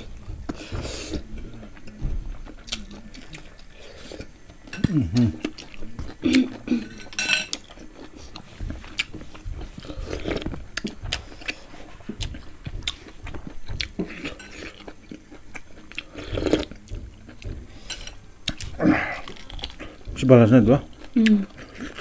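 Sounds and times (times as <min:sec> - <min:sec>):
wet chewing and crunching: 0:00.0 - 0:22.0.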